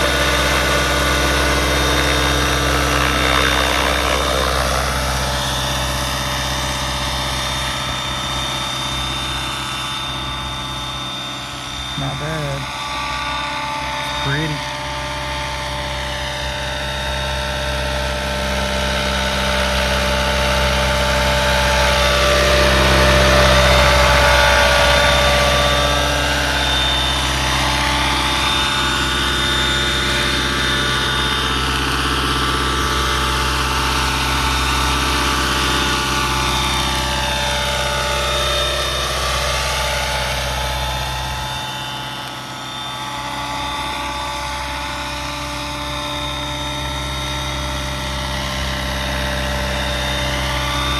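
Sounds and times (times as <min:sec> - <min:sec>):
rc helicopter motor whine: 0:00.0 - 0:50.9.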